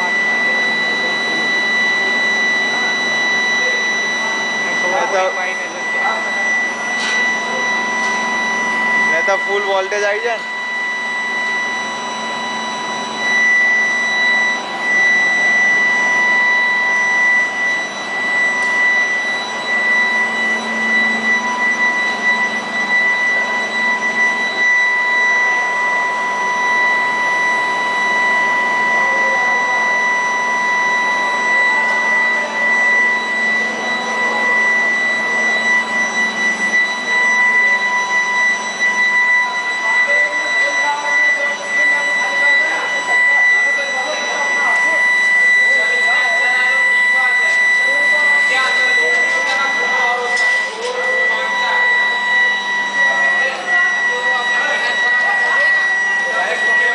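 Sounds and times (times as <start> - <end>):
high-pitched electrical whine: 0.0 - 56.9.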